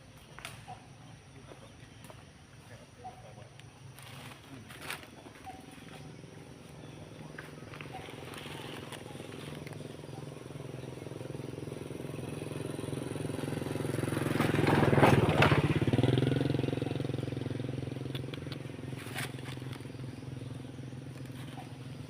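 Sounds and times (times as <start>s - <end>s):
vehicle engine passing by: 4.0s - 22.0s.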